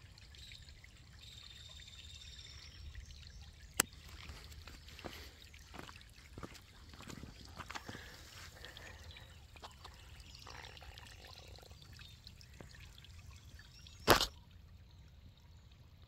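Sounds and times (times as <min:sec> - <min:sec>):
water dripping: 0:00.0 - 0:16.0
water trickling over rocks: 0:00.0 - 0:16.0.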